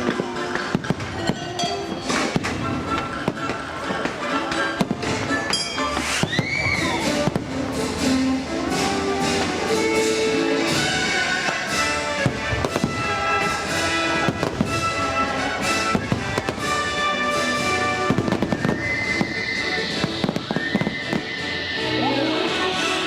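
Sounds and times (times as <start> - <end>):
fireworks bursting and crackling: 0.0 - 23.0
orchestral music: 0.0 - 23.0.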